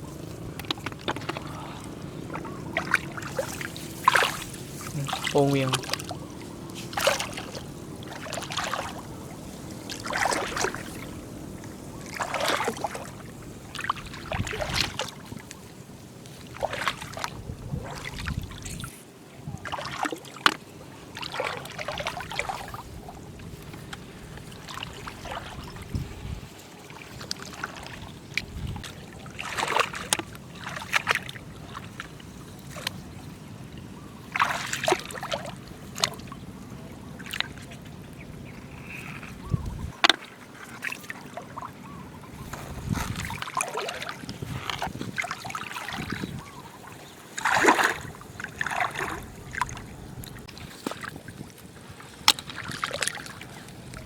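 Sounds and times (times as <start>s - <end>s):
shallow water sloshing and splashing: 0.0s - 54.0s.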